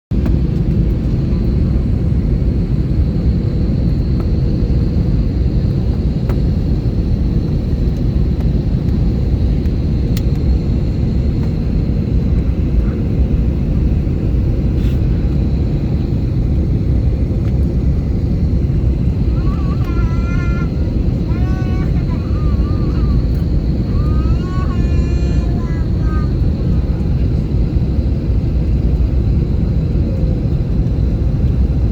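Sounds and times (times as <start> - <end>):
airplane rumble: 0.1 - 31.9.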